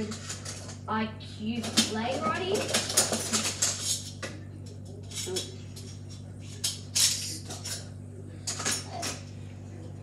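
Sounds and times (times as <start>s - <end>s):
utensils and dishes clattering: 0.0s - 0.8s, 1.6s - 9.4s
steady low hum: 0.0s - 10.0s.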